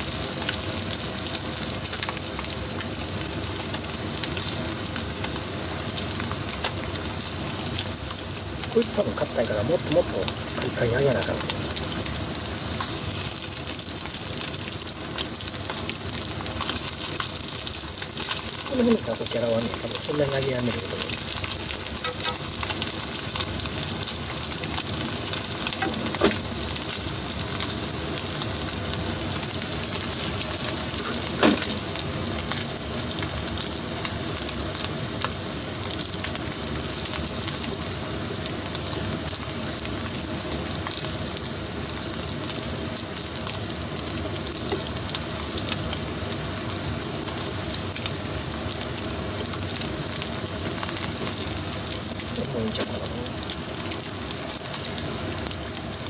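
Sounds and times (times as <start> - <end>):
oil sizzling in a frying pan: 0.0 - 56.0.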